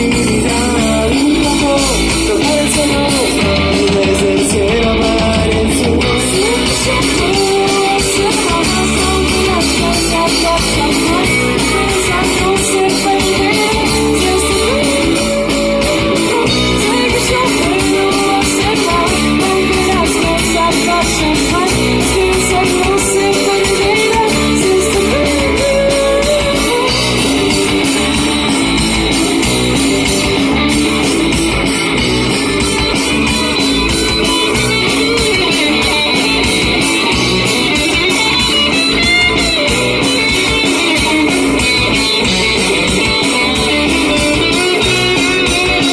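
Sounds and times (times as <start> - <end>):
electric guitar: 0.0 - 45.9
live rock band playing: 0.0 - 45.9.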